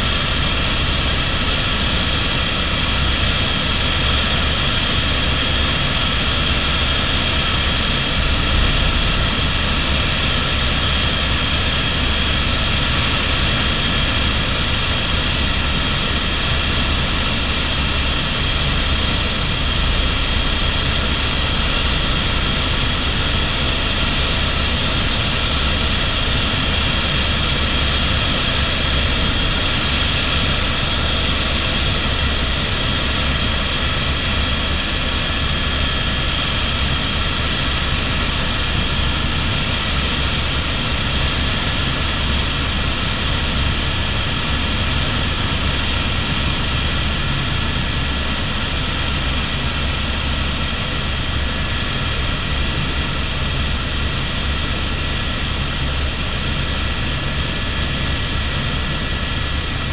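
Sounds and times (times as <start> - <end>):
helicopter engine whine: 0.0 - 59.9
helicopter rotor drone: 0.0 - 59.9.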